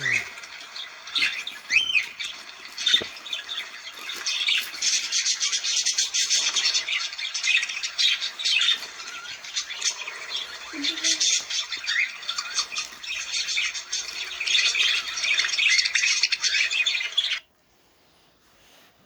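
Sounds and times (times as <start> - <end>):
cockatiels squawking: 0.0 - 17.4.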